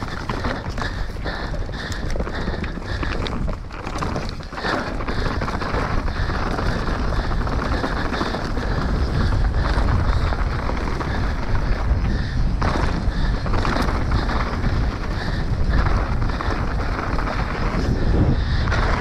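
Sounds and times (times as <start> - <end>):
mountain bike rumbling and rattling: 0.0 - 19.0
wind buffeting microphone: 0.0 - 19.0.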